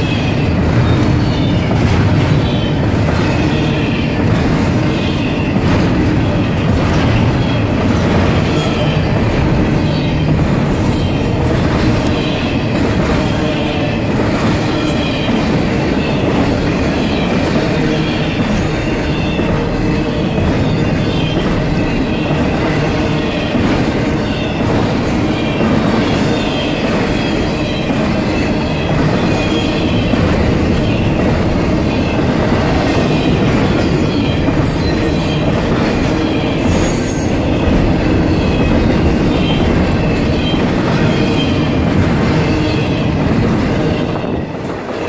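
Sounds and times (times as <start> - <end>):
train wheels rumbling and clattering: 0.0 - 45.0.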